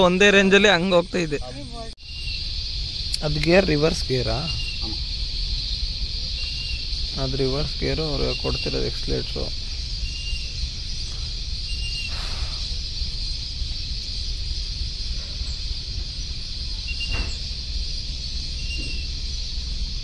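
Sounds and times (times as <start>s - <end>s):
boat engine rumbling: 0.0s - 20.0s
insect drone: 0.0s - 20.0s.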